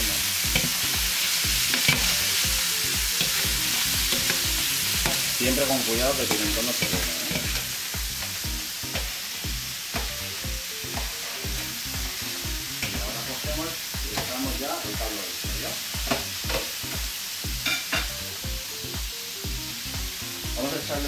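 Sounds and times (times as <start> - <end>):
faint background music: 0.0 - 21.0
food sizzling in oil: 0.0 - 21.0.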